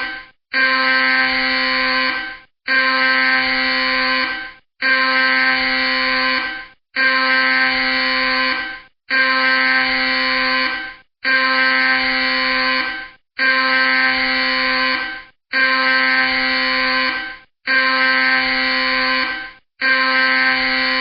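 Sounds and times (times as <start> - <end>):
loud pitched alarm blasts: 0.0 - 21.0.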